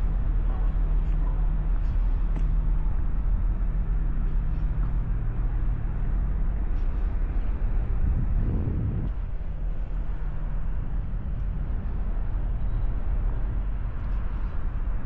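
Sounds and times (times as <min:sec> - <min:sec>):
low mechanical hum: 0:00.0 - 0:15.0
outdoor rumble: 0:00.0 - 0:15.0.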